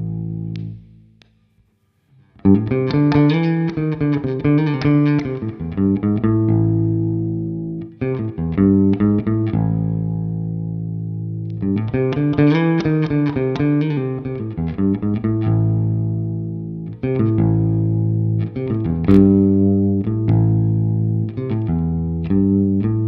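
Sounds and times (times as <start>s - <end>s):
electric guitar notes and chords: 0.0s - 1.3s, 2.4s - 23.0s.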